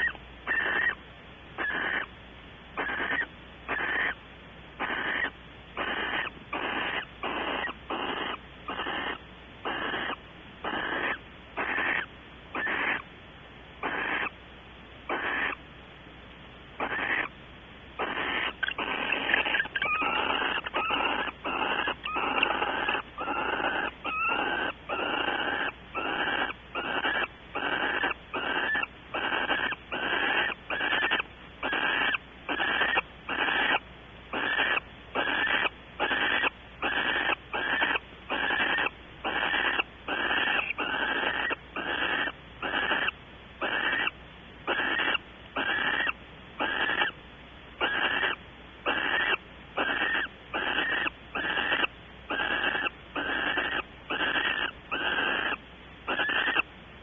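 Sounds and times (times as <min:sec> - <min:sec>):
owl rasping hissing calls: 0:00.0 - 0:01.0, 0:01.6 - 0:02.1, 0:02.8 - 0:04.2, 0:04.8 - 0:13.1, 0:13.8 - 0:14.4, 0:15.0 - 0:15.6, 0:16.8 - 0:17.4, 0:18.0 - 0:47.2, 0:47.8 - 0:56.7.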